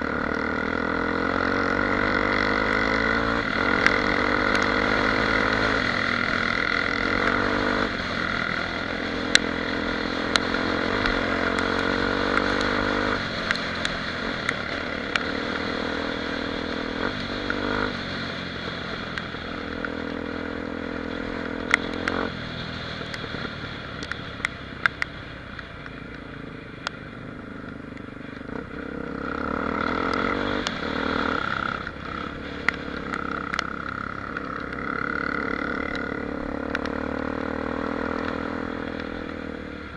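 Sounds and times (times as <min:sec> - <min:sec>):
motorcycle engine running: 0:00.0 - 0:39.9
sharp ticks: 0:01.9 - 0:39.9.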